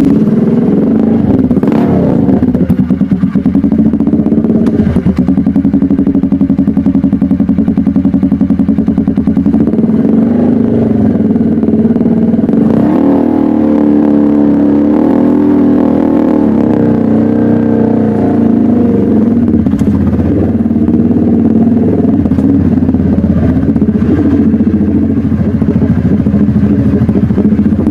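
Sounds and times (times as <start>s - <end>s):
motorcycle engine idling: 0.0s - 12.9s, 14.1s - 27.9s.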